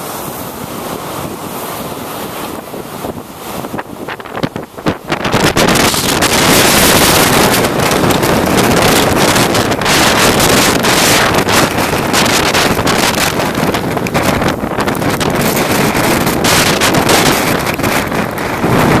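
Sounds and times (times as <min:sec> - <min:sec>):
storm waves breaking: 0:00.0 - 0:19.0
wind buffeting microphone: 0:00.0 - 0:19.0.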